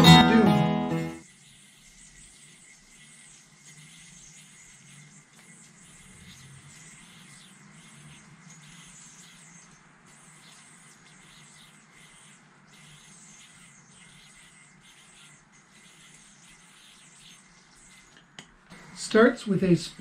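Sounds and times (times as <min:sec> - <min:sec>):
yoyo string swishing: 0:01.2 - 0:18.6.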